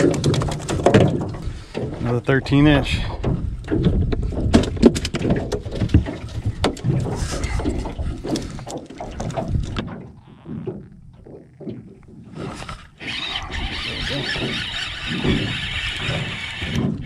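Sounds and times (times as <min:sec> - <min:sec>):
gear clattering in metal boat: 0:00.0 - 0:17.0.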